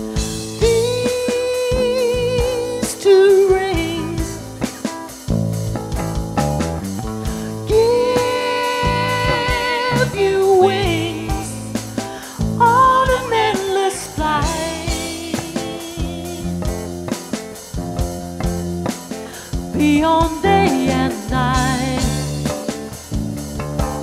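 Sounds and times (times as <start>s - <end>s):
plucked guitar accompaniment: 0.0s - 24.0s.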